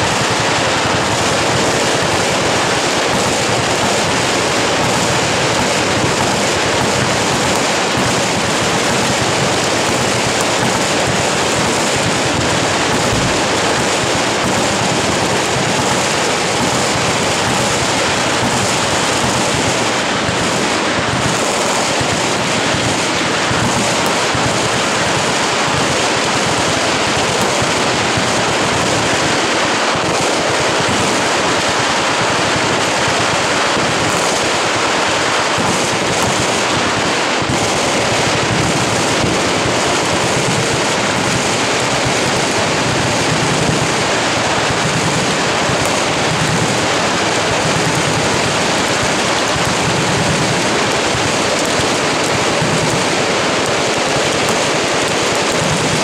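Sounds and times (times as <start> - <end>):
machine gun fire: 0.0 - 56.0.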